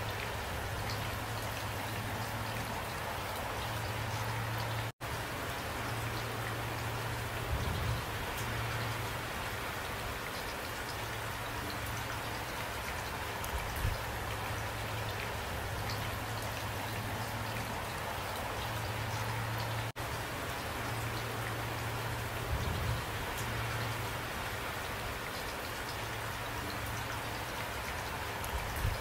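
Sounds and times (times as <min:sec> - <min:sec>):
raindrops hitting close by: 0:00.0 - 0:29.0
steady rain: 0:00.0 - 0:29.0.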